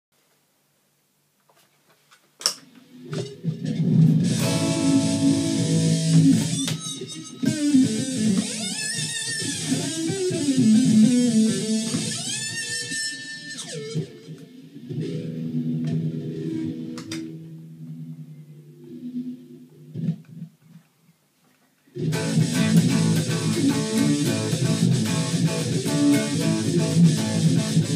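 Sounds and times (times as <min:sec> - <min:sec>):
electric guitar with string bends: 0:02.8 - 0:20.5, 0:21.9 - 0:27.9.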